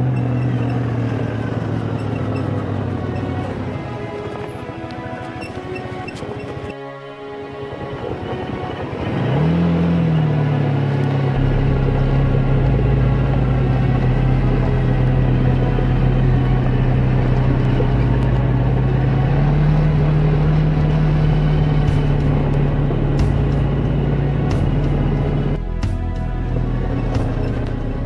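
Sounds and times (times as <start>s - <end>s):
quad bike engine running: 0.0s - 6.7s, 7.7s - 28.0s.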